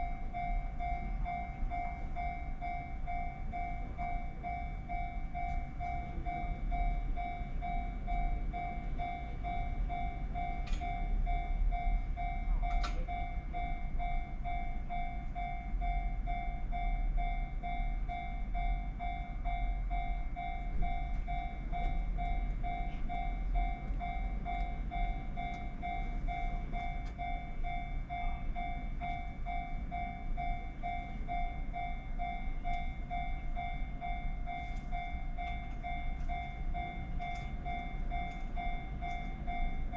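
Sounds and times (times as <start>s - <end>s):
level crossing alarm bell: 0.0s - 39.9s.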